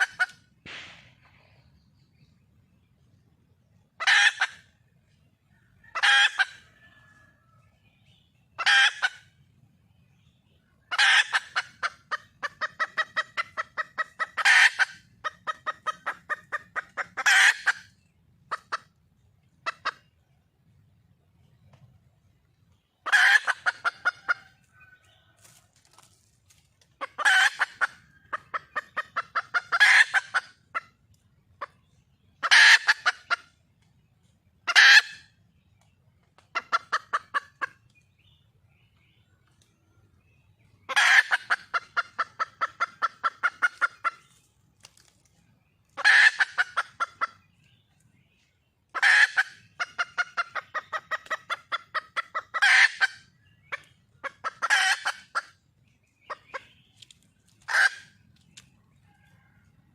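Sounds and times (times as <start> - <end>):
hen clucking: 0.0 - 1.8, 3.6 - 59.9.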